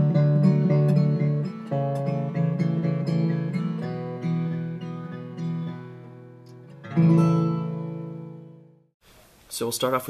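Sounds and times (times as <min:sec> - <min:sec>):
acoustic guitar plucked notes: 0:00.0 - 0:08.9.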